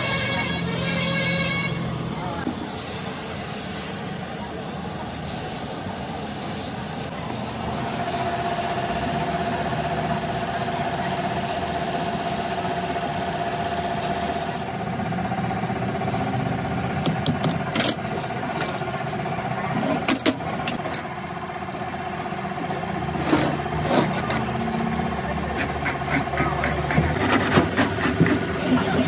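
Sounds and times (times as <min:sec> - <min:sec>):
machine running: 0:02.4 - 0:29.0.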